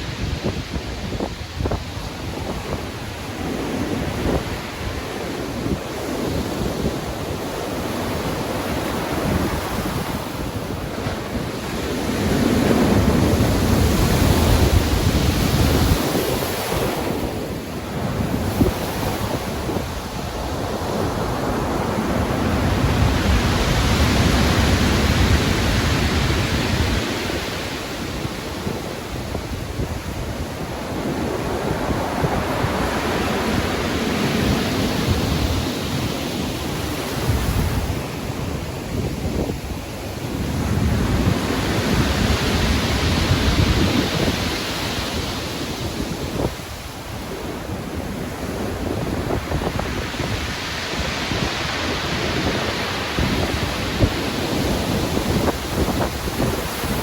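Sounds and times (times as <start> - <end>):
heavy ocean waves breaking: 0.0 - 57.0.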